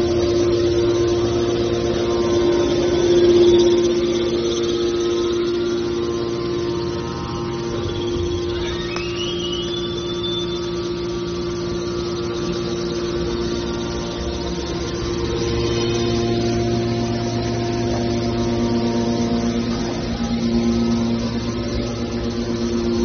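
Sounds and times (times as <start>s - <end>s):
baler machine hum: 0.0s - 23.0s
rising machine whine: 0.0s - 23.0s.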